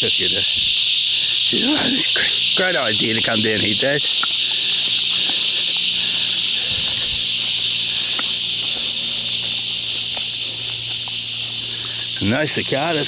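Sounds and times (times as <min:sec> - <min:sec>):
cicadas calling: 0:00.0 - 0:13.0.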